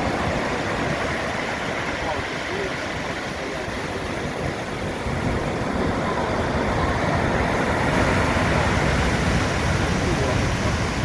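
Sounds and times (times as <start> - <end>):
sea surf breaking on shore: 0.0 - 11.0
wind buffeting microphone: 0.0 - 11.0.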